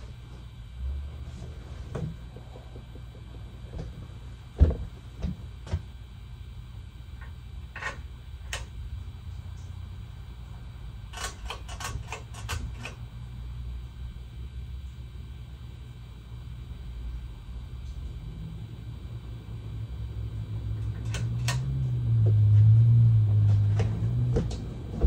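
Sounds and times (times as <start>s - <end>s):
ceiling fan humming: 0.0s - 25.0s.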